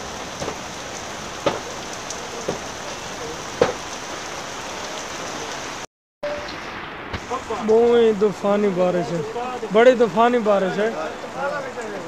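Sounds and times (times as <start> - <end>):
heavy rain pouring on road: 0.0 - 12.0.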